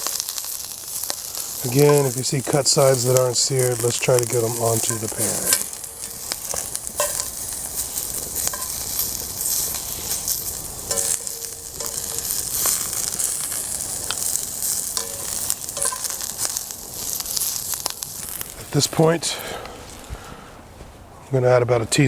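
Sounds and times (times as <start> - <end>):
utensil scraping a pan: 0.0 - 18.8
vegetables sizzling in oil: 0.0 - 20.1.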